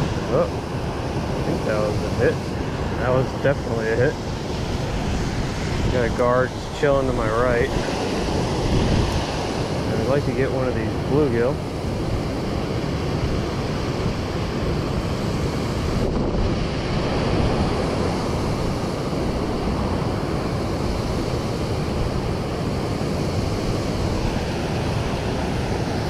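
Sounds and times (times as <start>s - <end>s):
water rushing through spillway: 0.0s - 26.0s.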